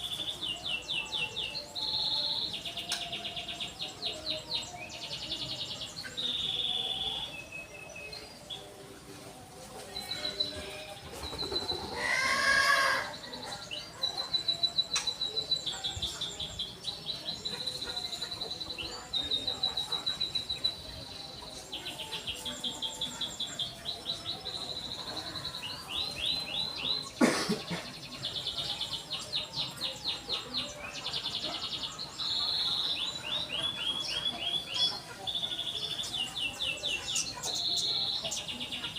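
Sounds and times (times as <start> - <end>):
canary singing trills: 0.0 - 8.8, 10.0 - 38.9.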